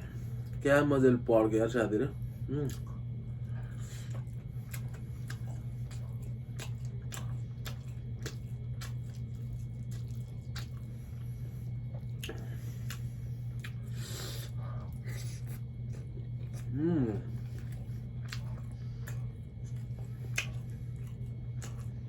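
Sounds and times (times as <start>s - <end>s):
steady low hum: 0.0s - 22.0s
wet chewing and mouth smacks: 2.6s - 22.0s.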